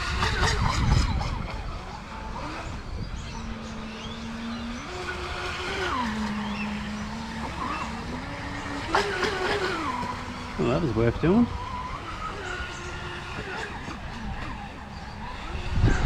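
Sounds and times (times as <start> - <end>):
rc jet boat motor whine: 0.0 - 16.0.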